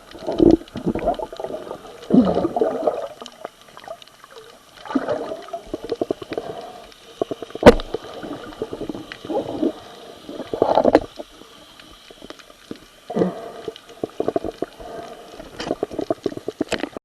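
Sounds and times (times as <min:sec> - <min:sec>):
fine crackling ticks: 0:00.0 - 0:17.0
underwater gurgling and bubbling: 0:00.0 - 0:17.0.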